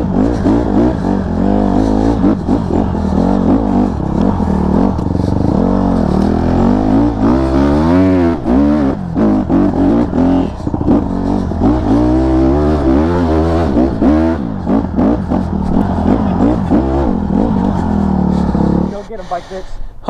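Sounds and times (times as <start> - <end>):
dirt bike engine revving: 0.0 - 19.4.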